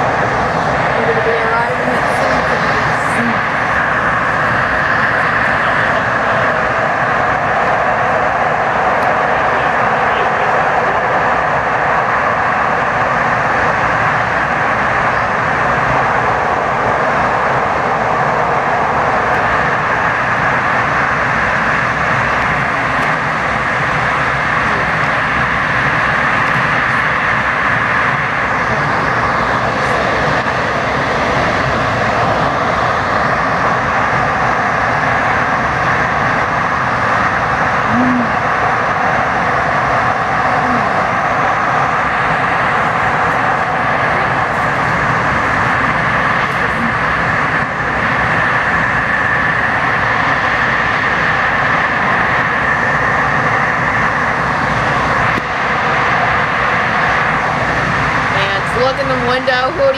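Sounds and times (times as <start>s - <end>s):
train wheels on track in tunnel: 0.0s - 59.9s.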